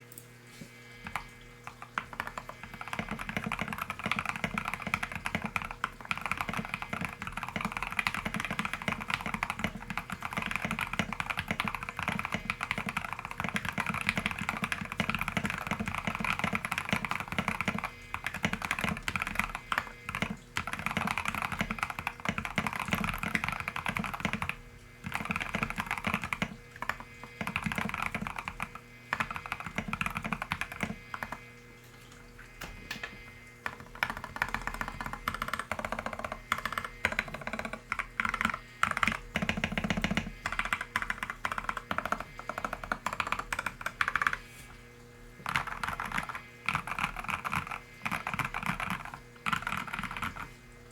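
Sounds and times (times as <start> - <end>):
mechanical keyboard typing: 1.0 - 31.4, 32.8 - 44.4, 45.4 - 50.5.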